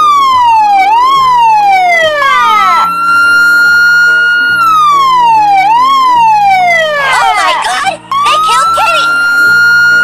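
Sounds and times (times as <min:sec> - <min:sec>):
siren-like electronic wail: 0:00.0 - 0:10.0.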